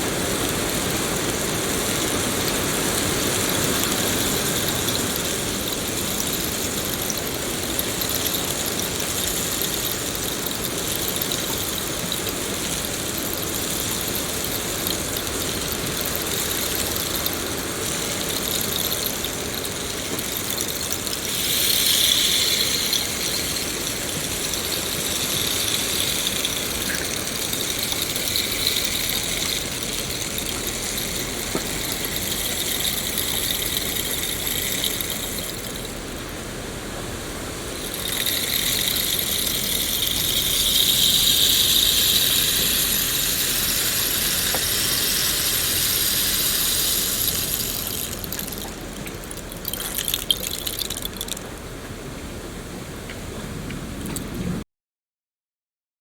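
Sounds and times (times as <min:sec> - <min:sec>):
rain falling: 0:00.0 - 0:52.4.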